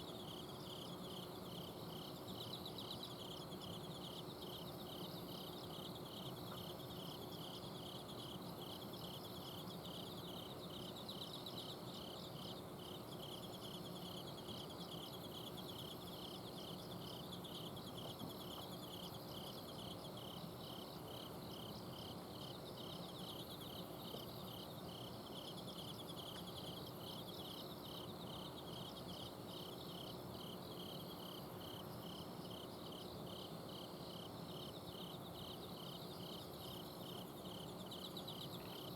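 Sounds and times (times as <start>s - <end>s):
cricket pulsed chirp: 0.0s - 38.9s
crickets trilling: 0.0s - 38.9s.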